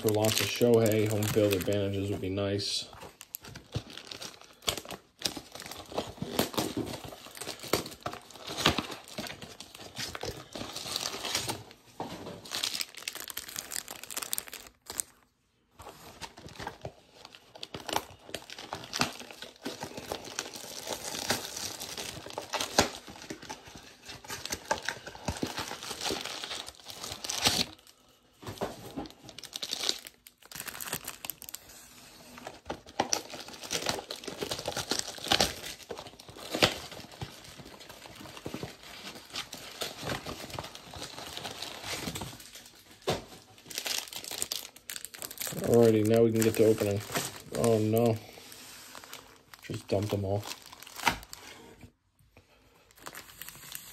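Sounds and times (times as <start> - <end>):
foil wrappers crinkling: 0.0 - 51.7, 52.6 - 53.9.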